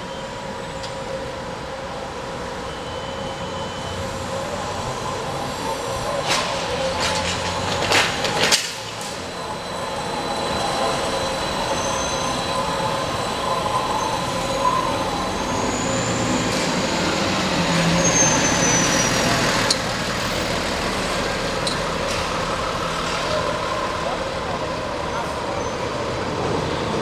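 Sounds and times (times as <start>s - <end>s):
diesel bus passing: 0.0s - 27.0s
traffic rumble: 0.0s - 27.0s.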